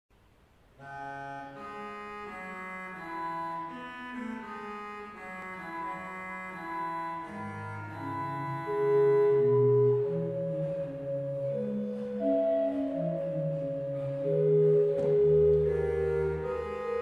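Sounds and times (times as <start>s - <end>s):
pipe organ playing: 0.8s - 17.0s.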